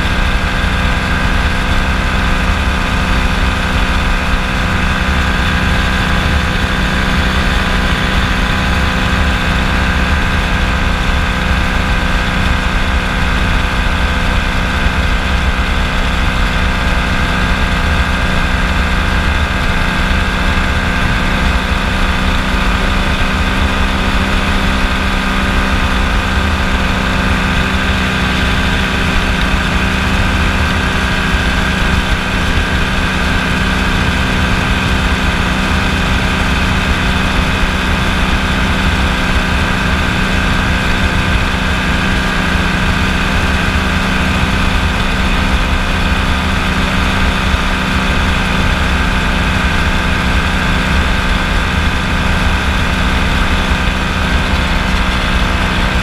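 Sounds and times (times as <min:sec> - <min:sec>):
ultralight aircraft engine drone: 0:00.0 - 0:56.0.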